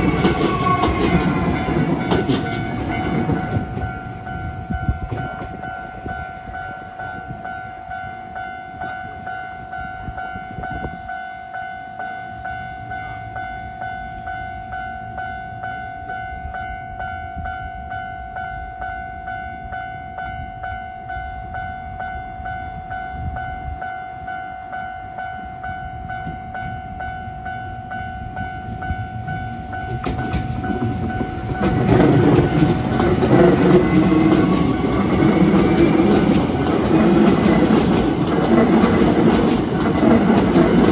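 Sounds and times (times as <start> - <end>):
electric train passing: 0.0 - 40.9
level crossing warning bell: 0.0 - 40.9.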